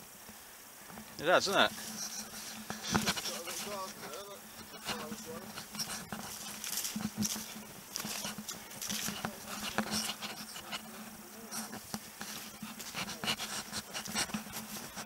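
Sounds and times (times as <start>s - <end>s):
footsteps through dry scrub: 1.0s - 15.0s.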